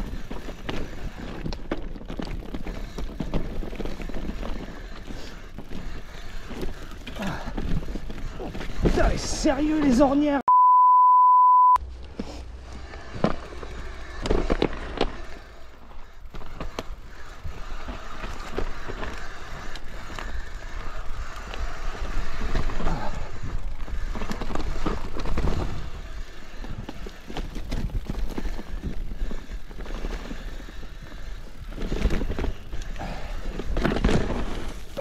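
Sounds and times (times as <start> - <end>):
bike knocks and rattles: 0.0 - 9.9, 12.8 - 35.0
bike tyres clattering over stones: 0.0 - 10.2, 12.2 - 35.0.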